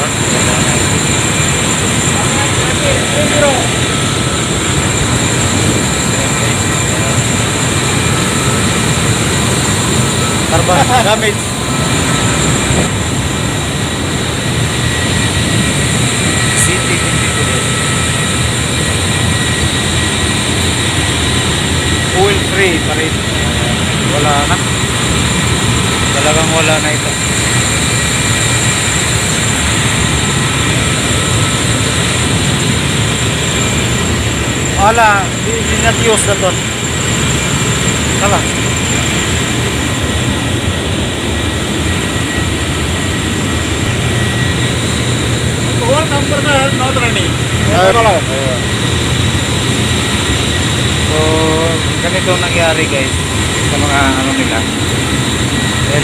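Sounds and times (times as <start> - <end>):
faint high whines: 0.0 - 56.0
industrial machinery running: 0.0 - 56.0.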